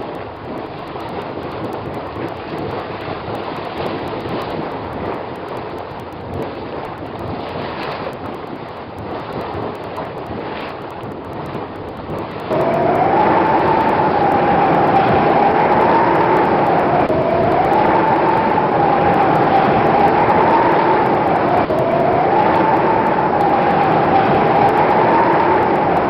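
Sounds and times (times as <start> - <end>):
rushing drone with whining tone: 0.0 - 26.0.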